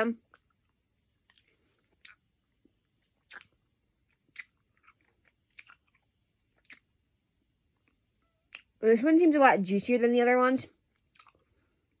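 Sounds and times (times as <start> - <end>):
person chewing candy: 0.2 - 8.8, 10.9 - 12.0.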